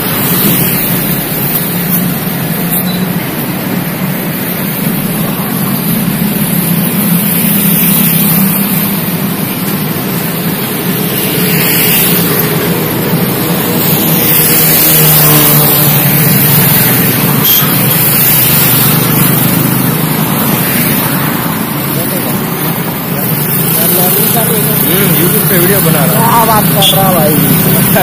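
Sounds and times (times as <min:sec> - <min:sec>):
rushing wind: 0:00.0 - 0:23.8
road noise: 0:00.0 - 0:28.0
vehicle engine running: 0:00.0 - 0:28.0.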